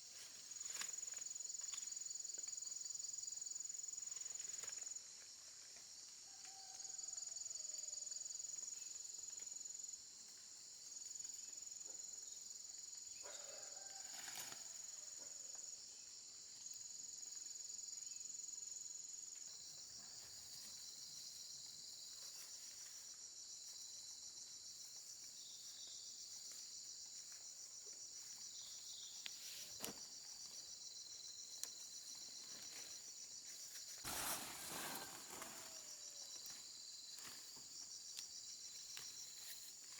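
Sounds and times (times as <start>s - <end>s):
insects trilling: 0.2s - 39.9s.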